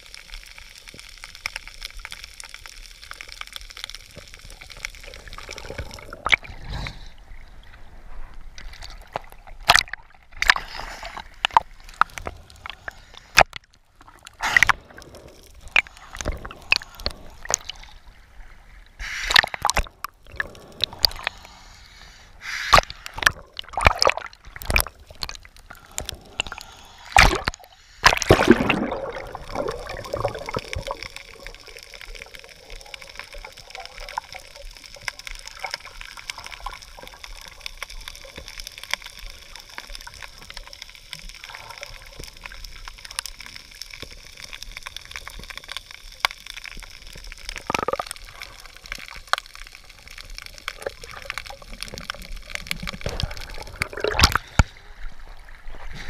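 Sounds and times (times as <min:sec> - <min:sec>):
bubbling and rushing water: 0:00.0 - 0:21.7, 0:22.3 - 0:56.0
underwater clicks and crackles: 0:00.0 - 0:56.0.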